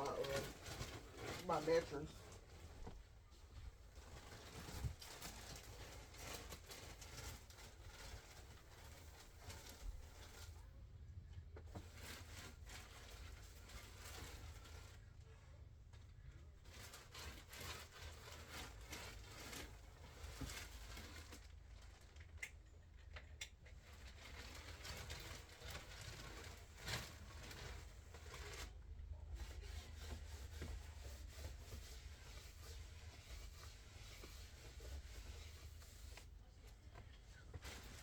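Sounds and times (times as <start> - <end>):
plastic sheeting rustling: 0.0 - 10.6, 11.7 - 15.4, 16.2 - 22.4, 23.7 - 38.0.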